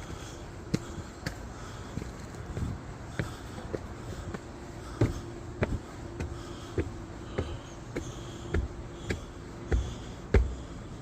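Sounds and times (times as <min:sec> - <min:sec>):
footsteps on trail: 0:00.0 - 0:11.0.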